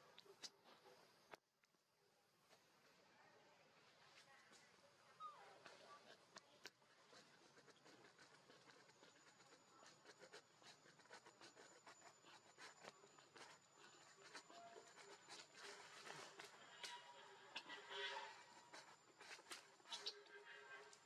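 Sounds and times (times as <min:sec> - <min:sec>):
soft ticks and rustles: 0:00.0 - 0:01.8, 0:02.4 - 0:21.0.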